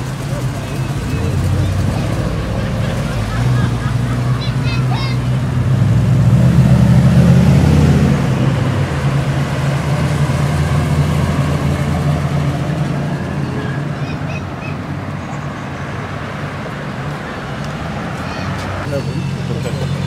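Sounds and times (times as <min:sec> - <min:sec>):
car engine rumbling past: 0:00.0 - 0:20.0.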